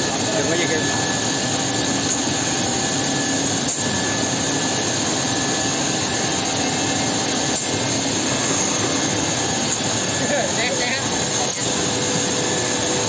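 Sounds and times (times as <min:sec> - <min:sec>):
machine dust extraction air rush: 0:00.0 - 0:13.0.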